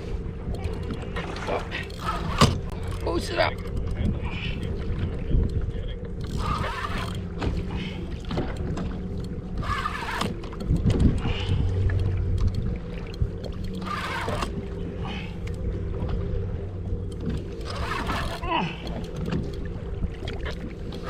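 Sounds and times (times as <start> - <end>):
steady low hum: 0.0 - 21.0
water sloshing against kayak hull: 0.0 - 21.0.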